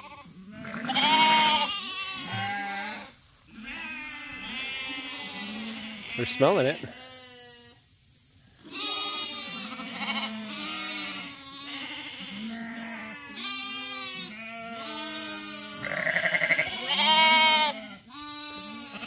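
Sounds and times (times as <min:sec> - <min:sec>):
sheep bleating: 0:00.0 - 0:07.8, 0:08.6 - 0:19.0.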